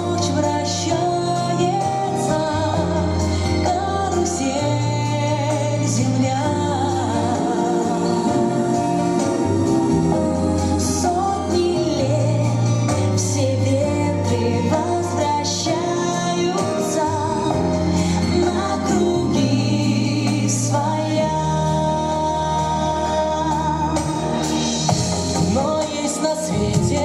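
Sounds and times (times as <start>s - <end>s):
instrumental accompaniment: 0.0s - 27.0s
person singing with vibrato: 0.0s - 27.0s.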